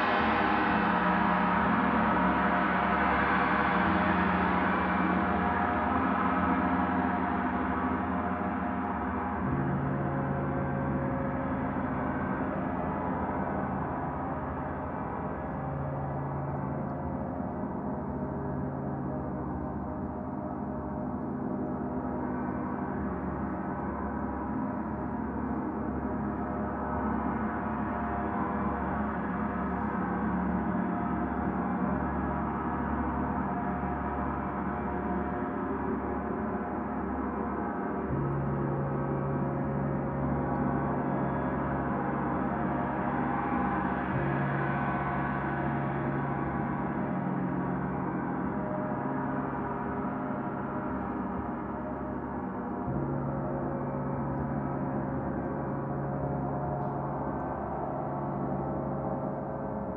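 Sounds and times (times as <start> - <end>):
low drone: 0.0 - 59.9.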